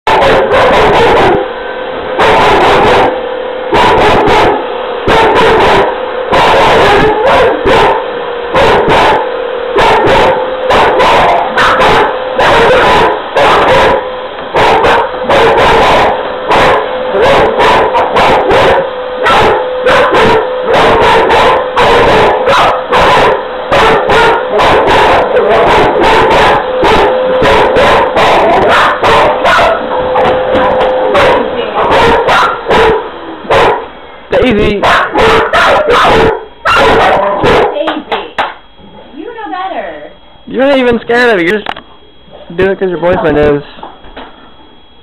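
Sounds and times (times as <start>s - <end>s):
dogs barking and yelping: 0.1s - 1.6s, 2.2s - 33.9s, 34.8s - 37.9s.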